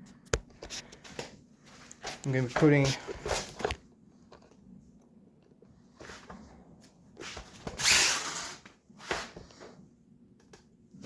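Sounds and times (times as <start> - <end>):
rustling and scraping: 0.0 - 4.8, 5.6 - 9.8.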